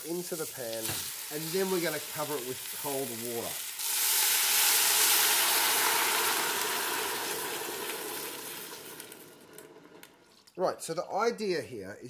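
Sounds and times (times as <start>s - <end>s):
water pouring into a pot: 0.0s - 10.5s.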